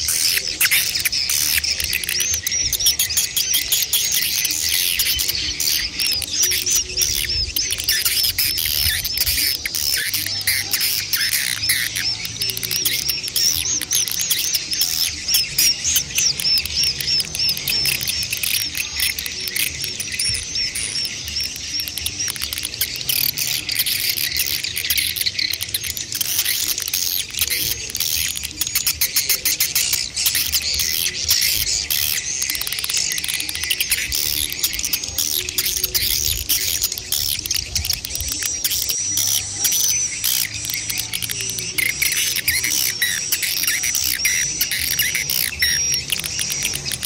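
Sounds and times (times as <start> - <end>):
swiftlets twittering: 0.0 - 47.0.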